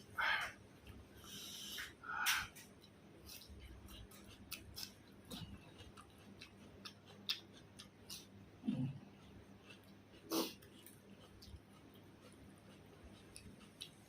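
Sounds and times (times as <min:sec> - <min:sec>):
person chewing food: 0:00.1 - 0:14.0
mouth clicks and smacks: 0:01.6 - 0:14.0.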